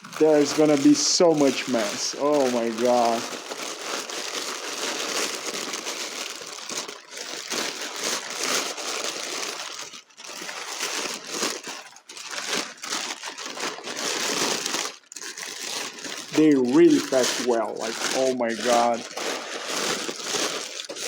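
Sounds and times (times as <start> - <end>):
paper crumpling and rustling: 0.0 - 21.0.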